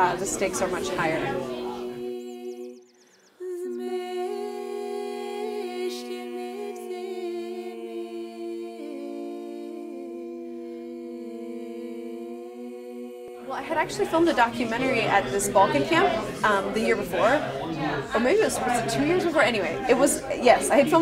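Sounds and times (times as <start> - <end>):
women singing in harmony: 0.0 - 17.6, 18.2 - 21.0.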